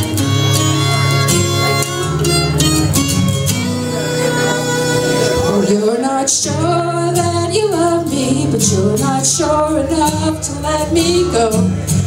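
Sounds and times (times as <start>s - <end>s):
country band instrumental: 0.0s - 12.0s.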